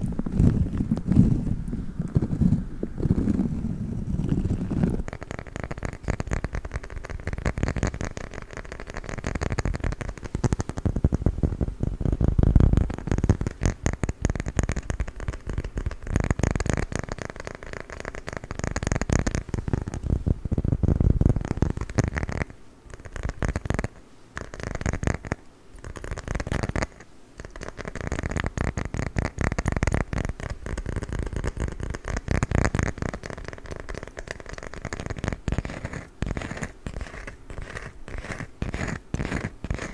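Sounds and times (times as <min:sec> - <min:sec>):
tapping and scratching on wood: 0:00.0 - 0:39.9.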